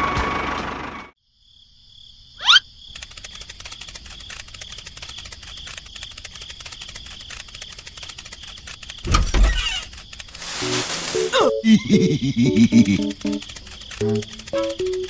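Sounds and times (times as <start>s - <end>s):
crickets chirring: 1.2s - 15.0s.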